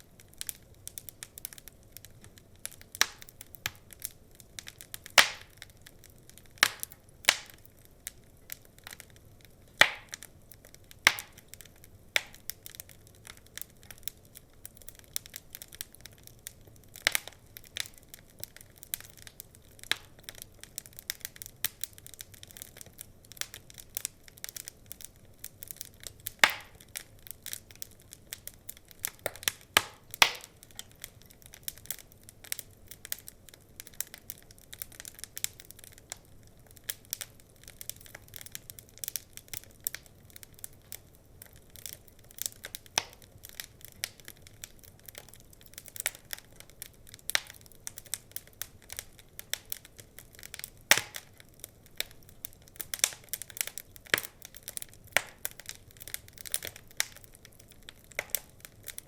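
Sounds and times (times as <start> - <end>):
faint low hiss: 0.0 - 59.0
wood fire crackling: 0.0 - 59.0.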